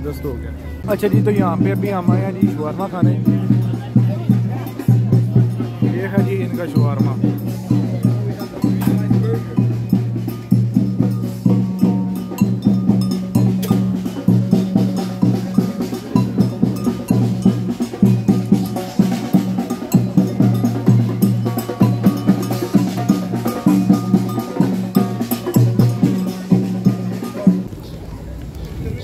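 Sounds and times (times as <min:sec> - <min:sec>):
percussion beat: 0:00.0 - 0:27.8.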